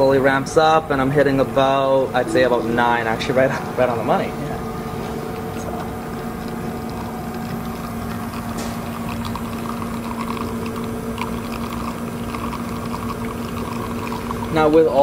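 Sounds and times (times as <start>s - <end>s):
espresso machine pump hum: 0.0s - 15.0s.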